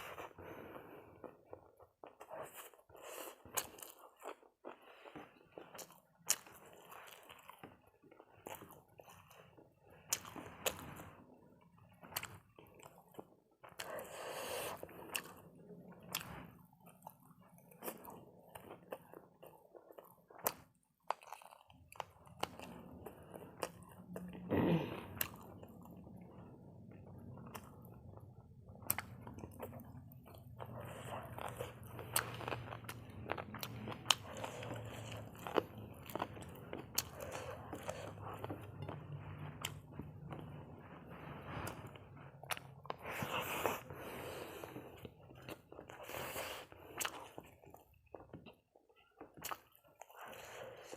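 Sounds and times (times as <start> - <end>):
person chewing and crunching: 0.0 - 50.9.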